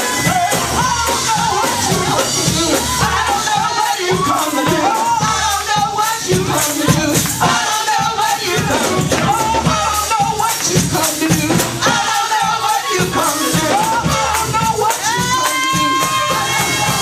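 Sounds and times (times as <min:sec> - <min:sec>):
driving beat: 0:00.0 - 0:17.0
rattling hand percussion: 0:00.0 - 0:17.0
voices singing: 0:00.0 - 0:17.0.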